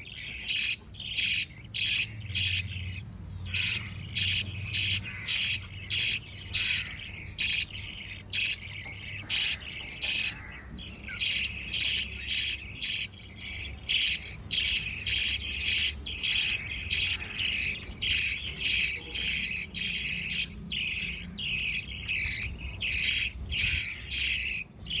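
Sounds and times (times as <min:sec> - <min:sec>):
bird chicks begging chirps: 0:00.0 - 0:25.0.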